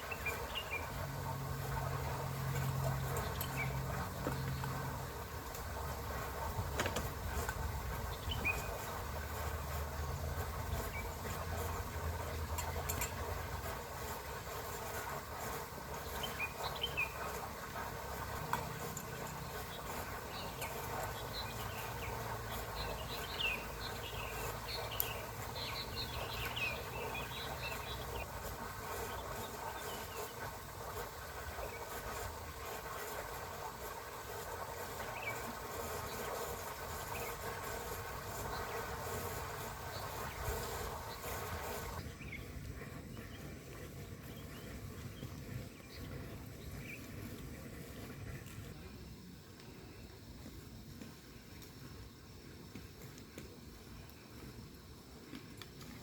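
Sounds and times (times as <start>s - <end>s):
steady hiss and hum: 0.0s - 56.0s.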